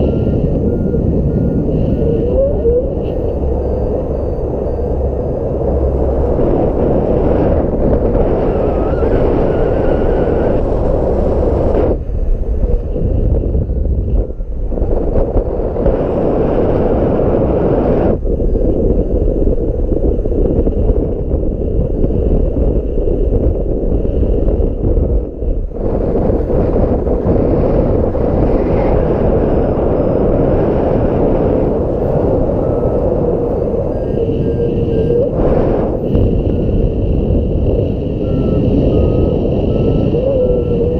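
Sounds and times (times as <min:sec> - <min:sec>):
strong wind buffeting microphone: 0:00.0 - 0:40.9.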